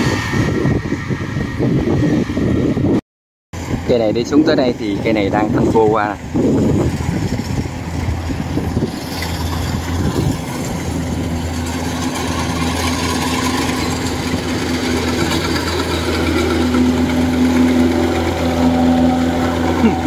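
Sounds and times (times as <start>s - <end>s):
combine harvester diesel engine: 3.6s - 20.0s.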